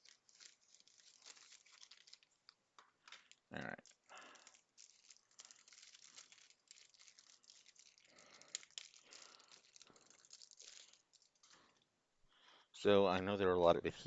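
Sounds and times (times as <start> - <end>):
plastic crinkling and rustling: 0.0 - 11.9.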